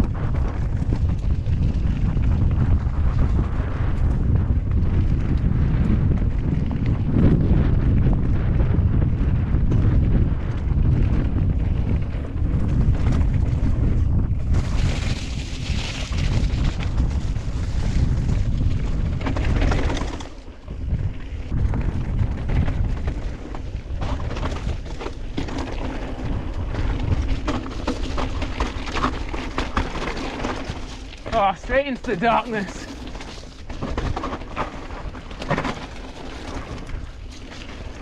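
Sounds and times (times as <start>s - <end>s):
bike clicks and rattles: 0.0s - 38.0s
rolling tyre noise: 0.0s - 38.0s
wind buffeting microphone: 0.0s - 38.0s.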